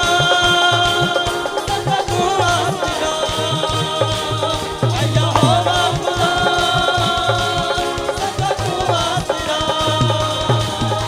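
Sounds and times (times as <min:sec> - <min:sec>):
harmonium chords: 0:00.0 - 0:11.0
man singing: 0:00.0 - 0:11.0
percussion beat: 0:00.0 - 0:11.0.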